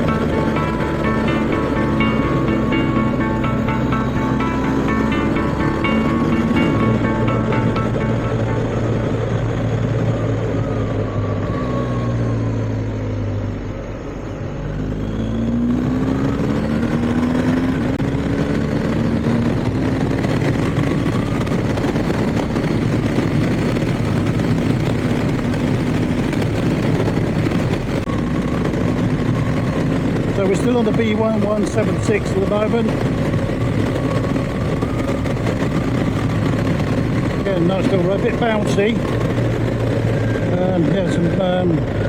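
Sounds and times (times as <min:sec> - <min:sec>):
motorcycle engine running: 0:00.0 - 0:11.2, 0:15.8 - 0:42.0
wind and road noise: 0:00.0 - 0:42.0.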